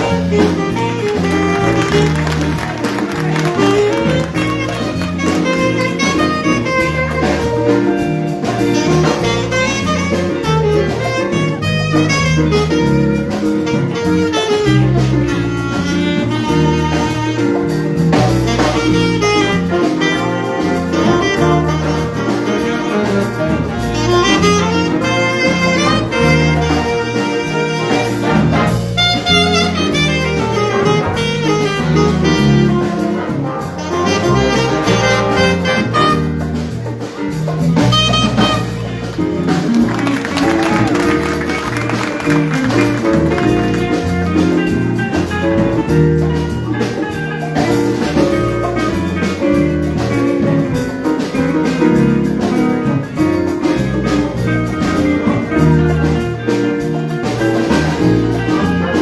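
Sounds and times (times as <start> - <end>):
jazz ensemble playing: 0.0 - 59.0.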